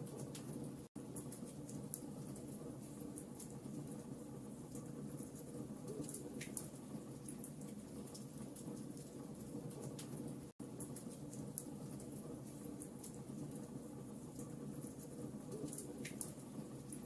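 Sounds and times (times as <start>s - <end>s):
low rumble of flames: 0.0s - 17.0s.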